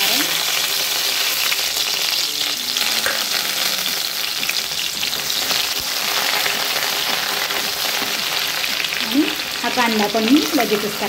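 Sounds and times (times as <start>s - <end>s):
garlic and chillies sizzling in oil: 0.0s - 11.0s.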